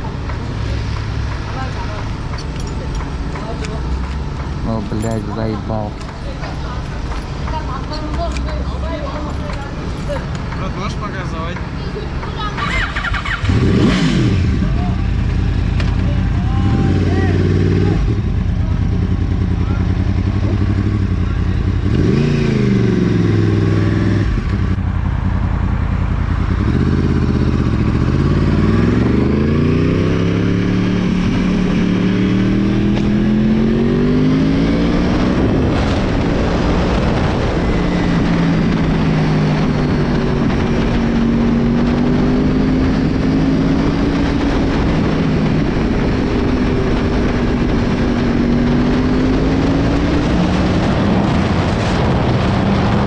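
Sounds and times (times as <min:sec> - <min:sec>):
moped engine revving: 0:00.0 - 0:53.0.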